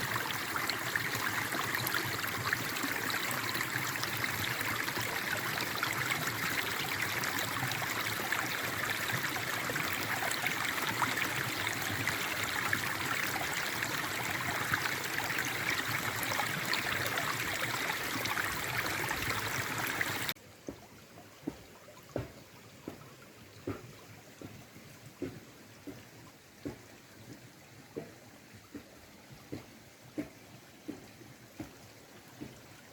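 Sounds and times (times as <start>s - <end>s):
forest stream running: 0.0s - 32.9s
soft drips or knocks: 0.0s - 32.9s.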